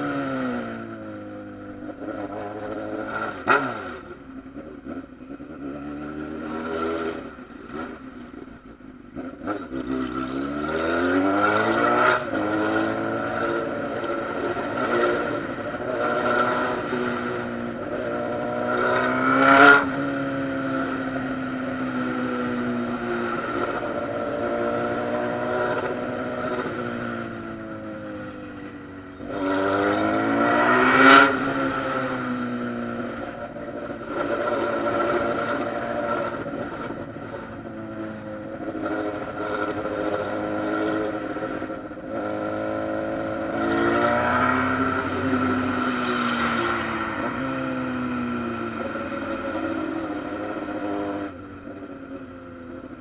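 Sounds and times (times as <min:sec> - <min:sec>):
motorcycle engine in traffic: 0:00.0 - 0:53.0.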